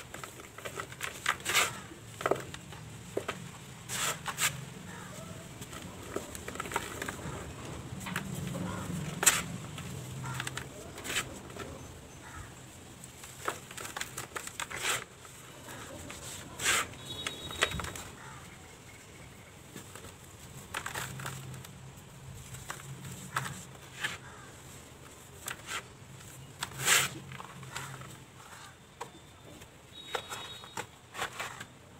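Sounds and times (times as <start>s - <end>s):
cement balls crunching by hand: 0.0s - 18.5s, 19.6s - 31.9s.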